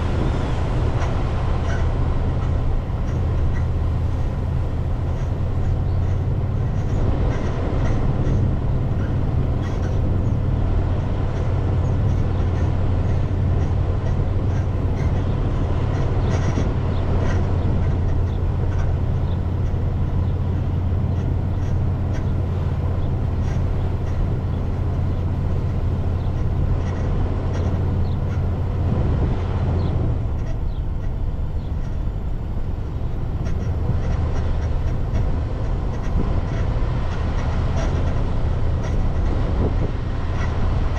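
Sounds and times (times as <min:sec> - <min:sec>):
car engine and tyre drone: 0:00.0 - 0:40.9.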